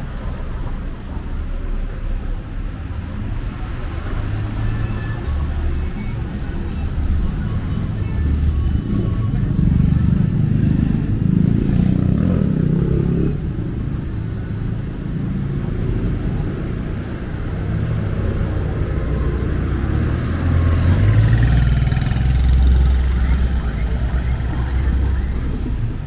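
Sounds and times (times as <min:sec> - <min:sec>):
motor vehicles passing: 0:00.0 - 0:26.0
vehicle accelerating: 0:03.1 - 0:26.0.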